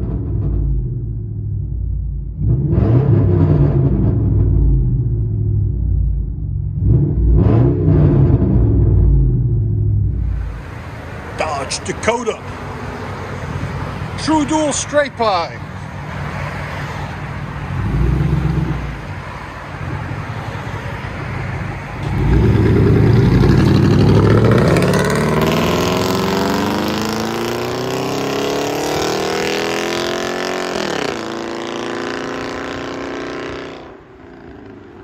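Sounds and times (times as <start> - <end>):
car engine revving: 0.0 - 12.4, 17.6 - 20.2, 21.4 - 35.0.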